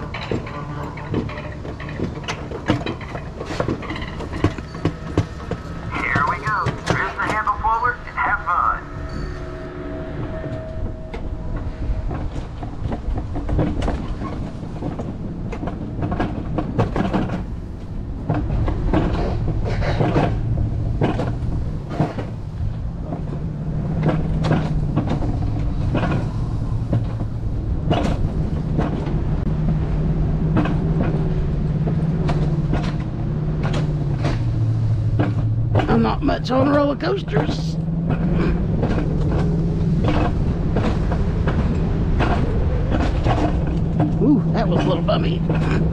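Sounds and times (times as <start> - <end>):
sharp clacks of rails: 0.0 - 7.6, 12.0 - 45.9
coaster sled rolling on rails: 0.0 - 45.9
low drone: 0.0 - 45.9.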